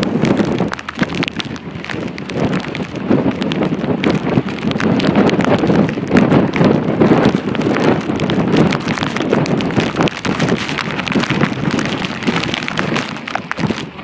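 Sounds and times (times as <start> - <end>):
drops pattering on microphone: 0.0 - 14.0
wind buffeting microphone: 0.0 - 14.0.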